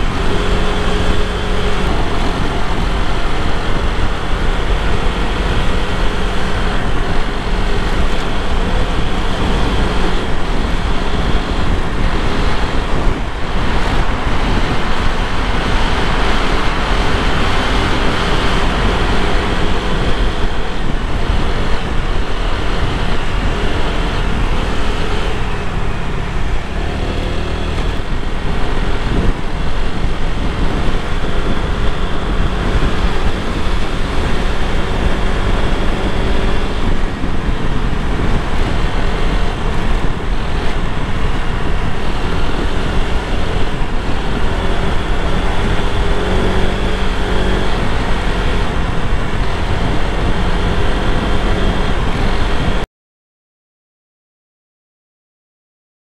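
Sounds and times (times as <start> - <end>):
scooter engine hum: 0.0 - 52.8
wind and road rush: 0.0 - 52.9.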